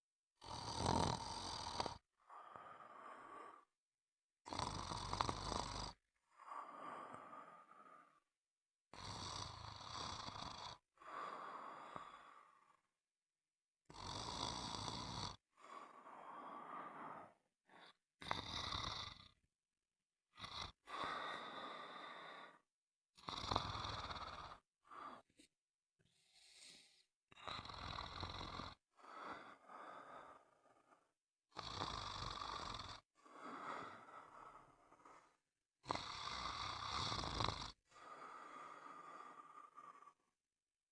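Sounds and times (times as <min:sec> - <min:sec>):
rasping snores: 0:00.4 - 0:03.7, 0:04.4 - 0:08.2, 0:08.9 - 0:12.9, 0:13.8 - 0:19.4, 0:20.3 - 0:25.5, 0:26.2 - 0:40.4.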